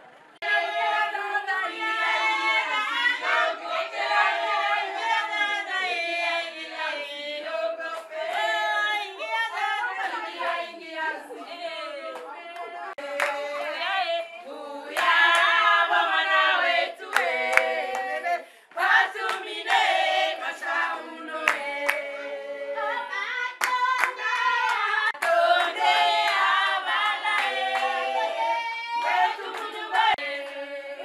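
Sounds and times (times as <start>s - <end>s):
women singing unaccompanied: 0.4s - 31.0s.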